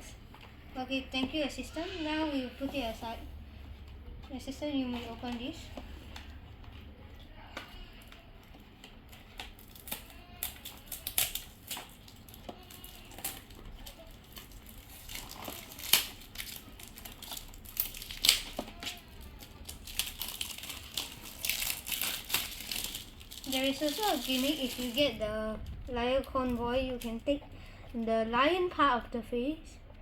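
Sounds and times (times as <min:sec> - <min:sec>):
packaging crinkling and rustling: 0:02.6 - 0:27.4.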